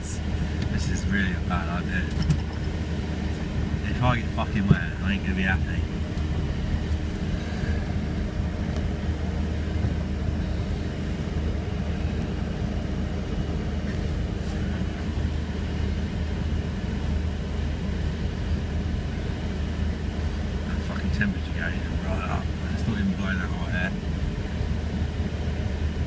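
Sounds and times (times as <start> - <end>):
car engine low drone: 0.0 - 26.0.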